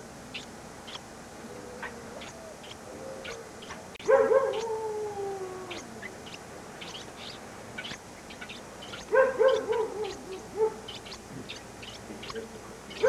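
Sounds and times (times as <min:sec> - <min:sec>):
faint high chirps: 0:00.3 - 0:13.0
animal yelping cries: 0:01.6 - 0:13.0.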